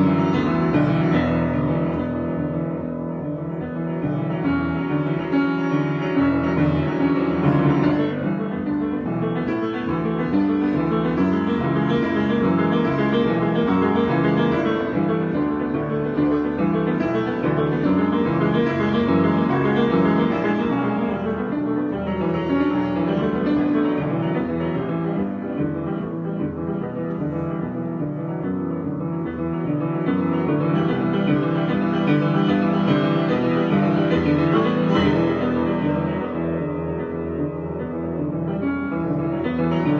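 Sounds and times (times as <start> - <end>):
piano improvisation: 0.0 - 39.9.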